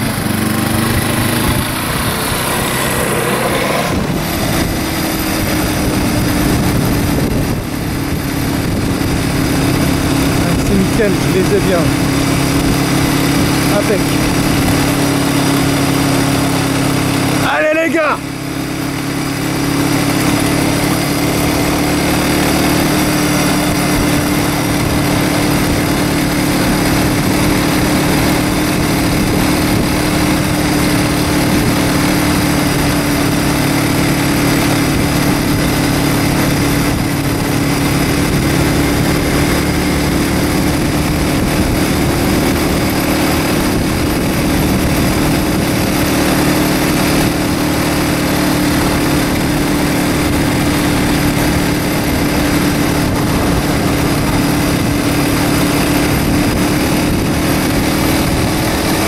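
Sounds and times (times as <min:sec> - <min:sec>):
vehicle engine droning: 0:00.0 - 0:59.0
wind and road noise: 0:00.0 - 0:59.0.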